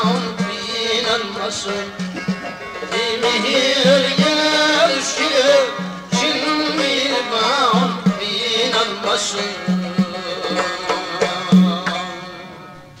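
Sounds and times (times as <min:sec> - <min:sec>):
instrumental accompaniment: 0:00.0 - 0:13.0
man singing ornamented line: 0:00.0 - 0:13.0.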